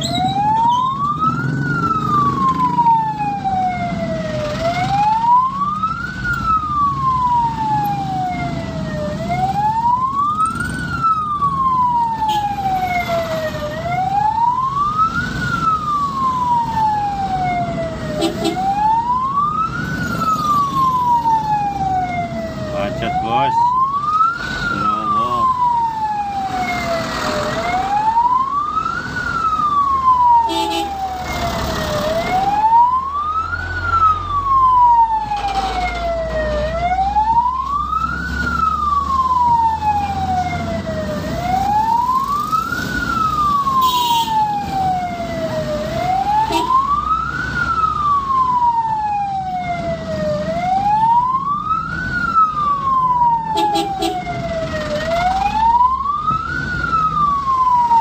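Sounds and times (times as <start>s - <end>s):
ambulance siren wailing: 0.0s - 58.0s
road traffic: 0.0s - 58.0s.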